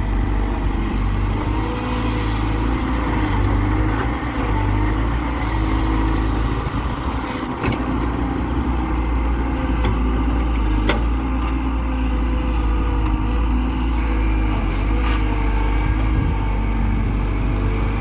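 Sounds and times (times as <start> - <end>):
heavy machinery diesel engine humming: 0.0 - 18.0.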